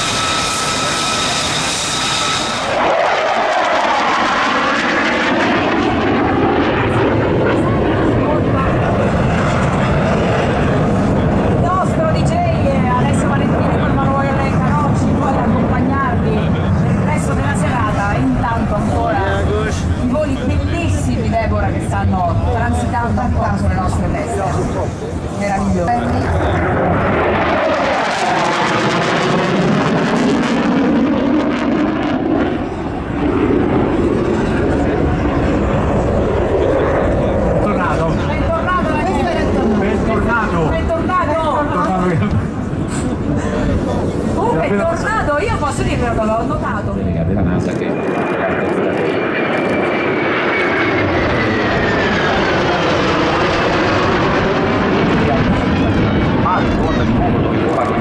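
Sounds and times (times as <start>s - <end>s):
jet roar passing: 0.0s - 58.0s.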